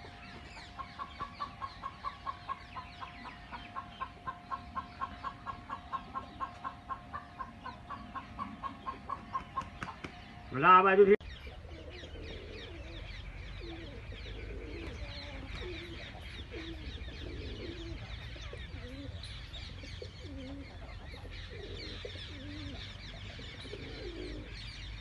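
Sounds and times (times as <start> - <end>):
pigeons cooing: 0.0 - 10.6, 11.2 - 25.0
small birds chirping: 0.0 - 25.0.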